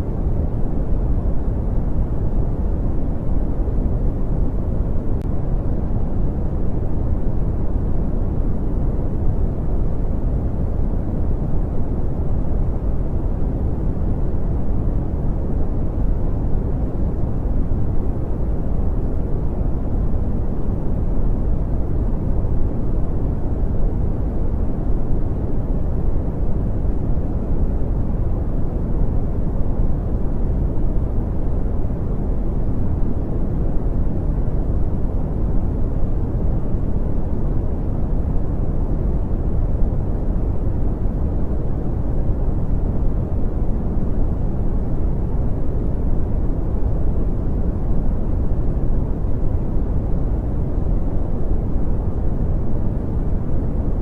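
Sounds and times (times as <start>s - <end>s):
deep rumbling brown noise: 0.0s - 54.0s.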